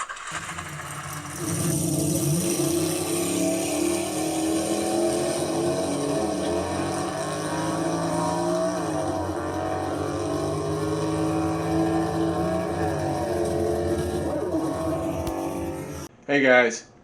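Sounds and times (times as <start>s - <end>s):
car engine revving high: 0.0s - 16.1s.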